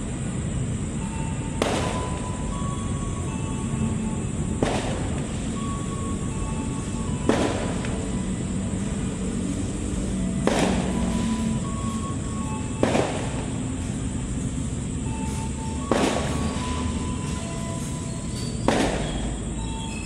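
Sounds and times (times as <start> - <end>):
train coaches rumbling: 0.0 - 20.0.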